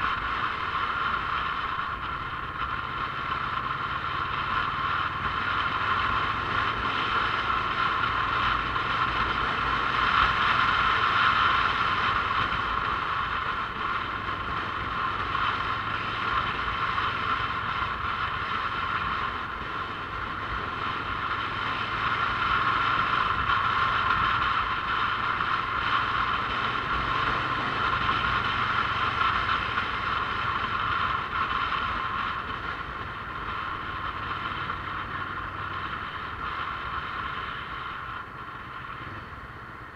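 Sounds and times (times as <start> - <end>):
motorcycle engine hum: 0.0 - 39.9
road and wind noise: 0.0 - 39.9.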